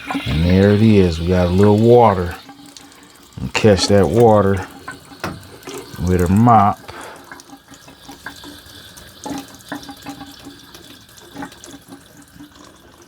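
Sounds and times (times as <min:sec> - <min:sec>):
water running and dripping from pipe: 0:00.0 - 0:13.0.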